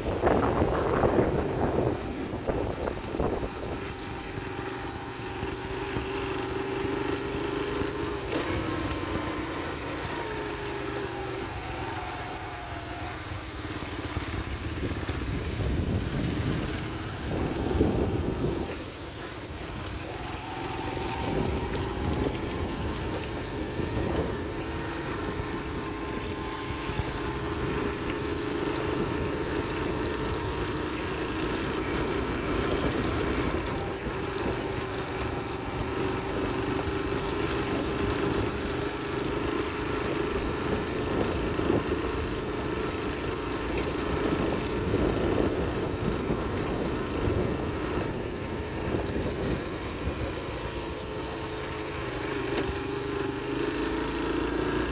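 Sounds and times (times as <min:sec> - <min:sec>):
wind rumble on microphone: 0:00.0 - 0:53.4
motorcycle two-stroke engine: 0:00.0 - 0:54.9.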